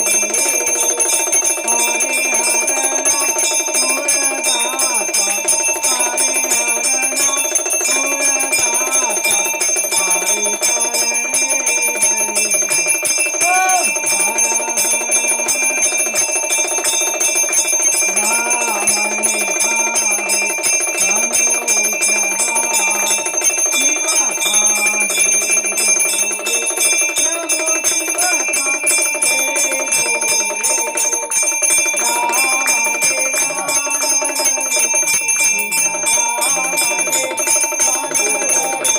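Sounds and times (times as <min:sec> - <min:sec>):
bells ringing rapidly: 0:00.0 - 0:38.9.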